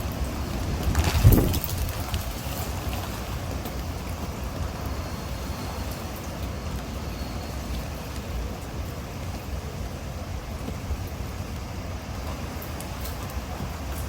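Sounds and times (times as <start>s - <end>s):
rain rushing: 0.0s - 14.0s
wind rumble on microphone: 0.0s - 14.0s.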